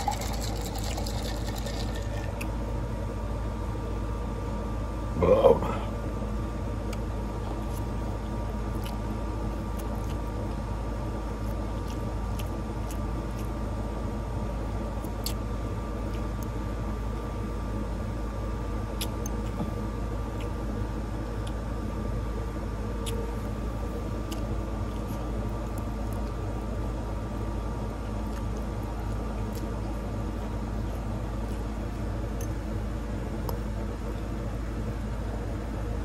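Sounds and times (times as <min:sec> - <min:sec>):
air conditioner humming: 0:00.0 - 0:36.0.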